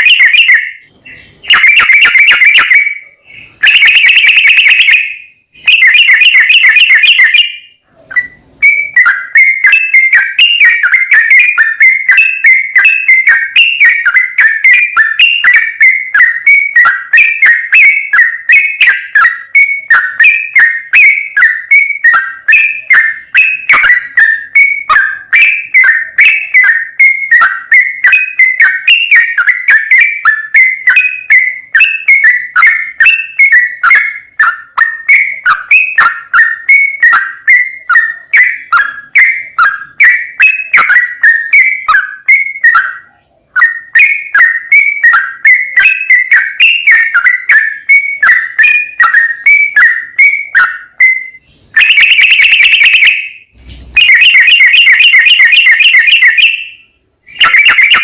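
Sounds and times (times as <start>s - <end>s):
bird singing bubbly notes: 0.0s - 58.0s.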